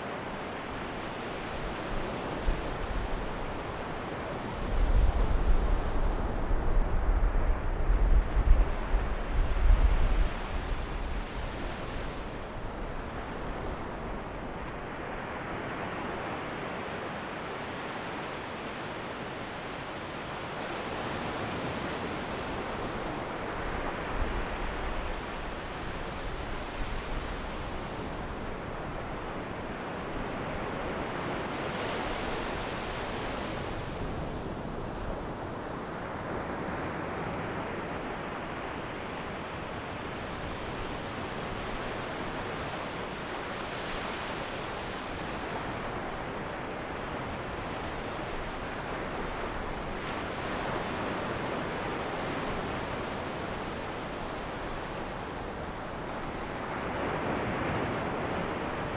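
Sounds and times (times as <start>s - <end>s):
waves breaking on shore: 0.0s - 58.9s.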